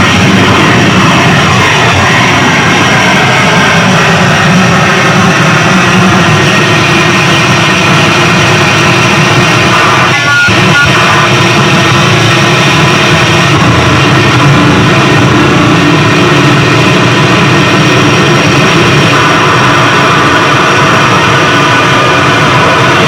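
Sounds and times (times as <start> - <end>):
harsh distorted noise music: 0.0 - 23.0.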